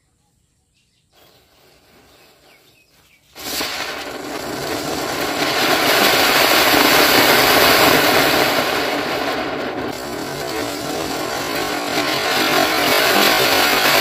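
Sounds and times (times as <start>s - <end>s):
firework rocket hissing: 1.2s - 14.0s.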